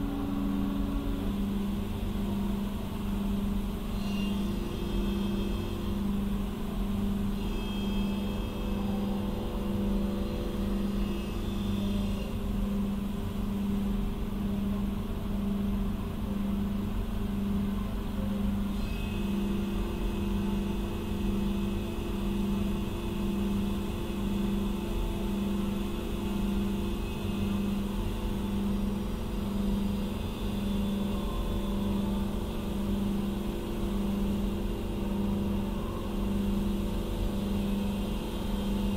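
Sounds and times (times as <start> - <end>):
machine pulsing hum: 0.0 - 38.9.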